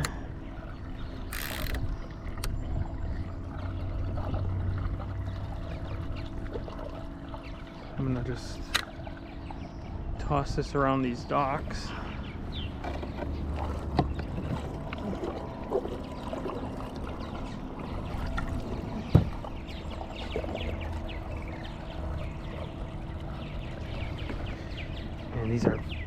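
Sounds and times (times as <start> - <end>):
water lapping against hull: 0.0 - 26.0.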